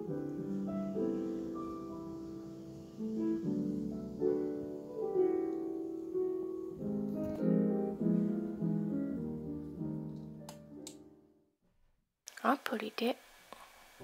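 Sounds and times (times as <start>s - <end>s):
solo piano chords: 0.0s - 11.4s.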